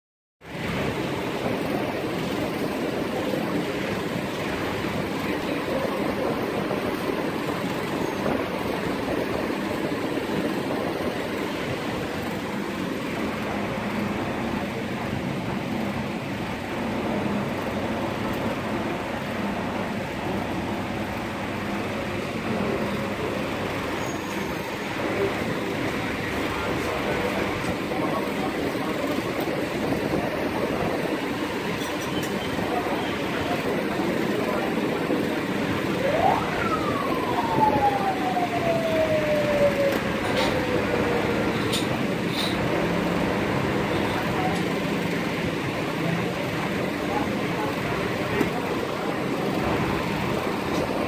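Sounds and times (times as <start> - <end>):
background rumble and hiss: 0.5 - 24.0, 24.6 - 51.0.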